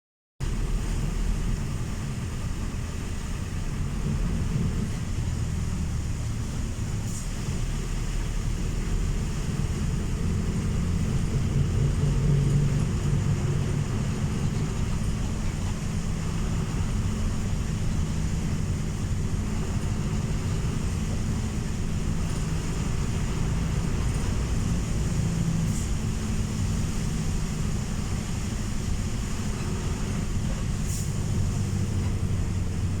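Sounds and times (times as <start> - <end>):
vehicle rumble: 0.4 - 33.0.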